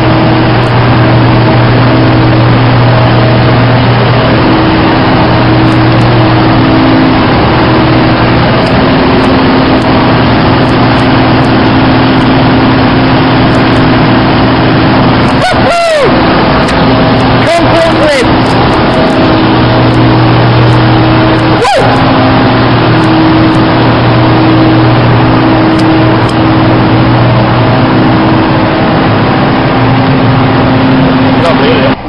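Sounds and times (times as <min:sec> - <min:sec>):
ground power unit engine drone: 0:00.0 - 0:32.0.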